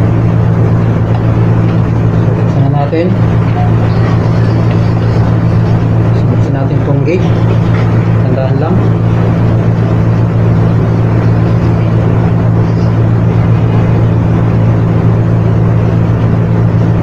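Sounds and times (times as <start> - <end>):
loud machine hum: 0.0 - 17.0.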